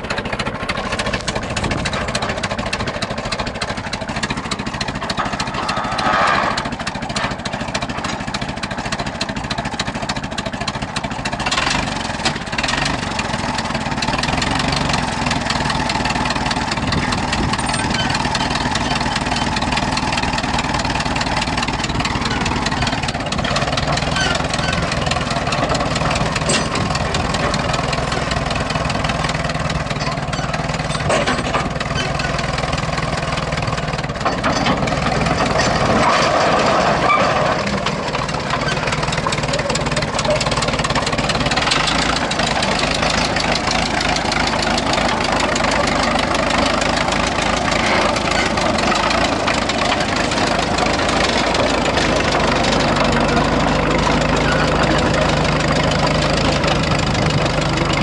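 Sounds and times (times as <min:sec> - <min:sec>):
crawler tractor engine running: 0:00.0 - 0:58.0.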